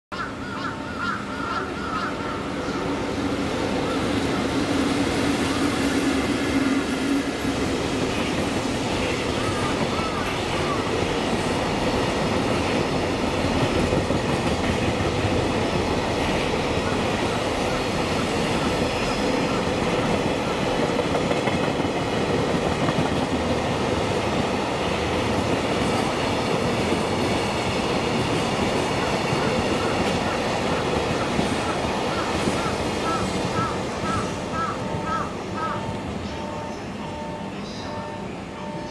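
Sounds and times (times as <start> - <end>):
steel train wheels on rails: 1.5 - 37.5.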